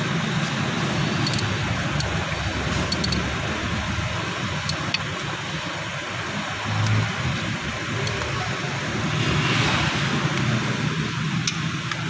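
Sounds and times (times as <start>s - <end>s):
workshop machine hum and hiss: 0.0s - 12.0s.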